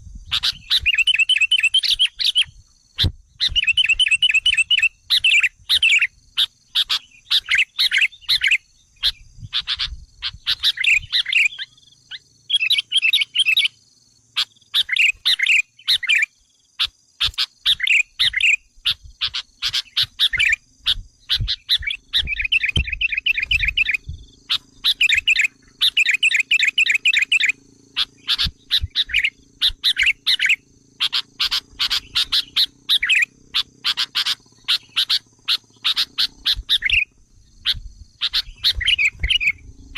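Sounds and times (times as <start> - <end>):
bulbul chattering calls: 0.3 - 39.9.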